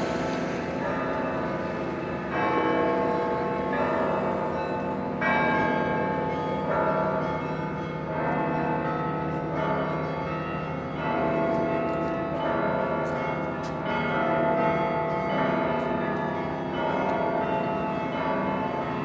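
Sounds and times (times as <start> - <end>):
church bells ringing: 0.0 - 19.0.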